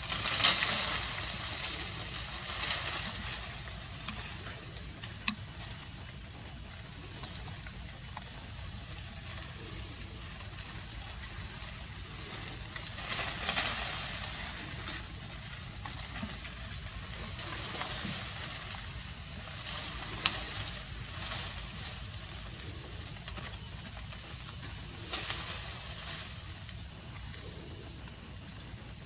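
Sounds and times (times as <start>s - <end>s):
steady high hiss: 0.0s - 29.0s.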